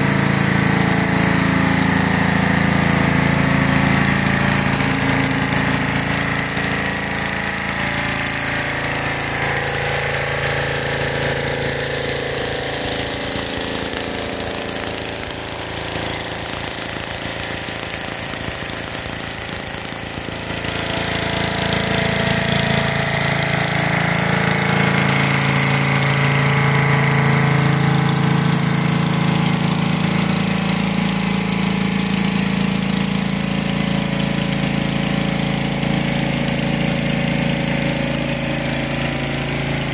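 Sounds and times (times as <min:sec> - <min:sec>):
pressure washer engine running: 0:00.0 - 0:39.9
water jets spraying on concrete: 0:00.0 - 0:39.9.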